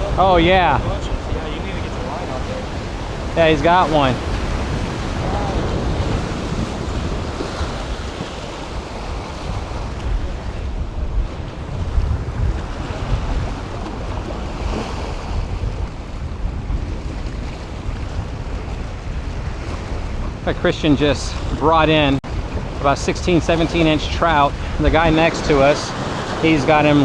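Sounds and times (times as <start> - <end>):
surf washing against jetty: 0.0 - 27.0
wind buffeting microphone: 0.0 - 27.0.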